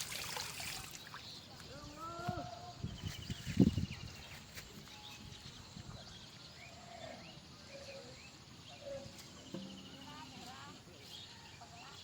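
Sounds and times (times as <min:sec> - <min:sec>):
birds chirping: 0:00.3 - 0:12.0.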